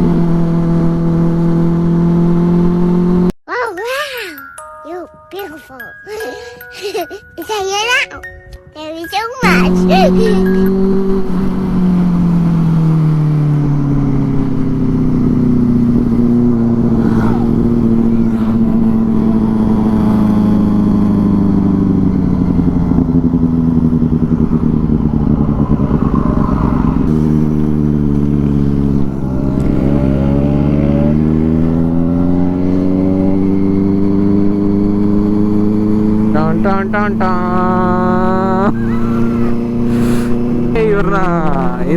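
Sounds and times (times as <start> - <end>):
motorcycle engine running: 0.0 - 3.3, 9.4 - 41.9.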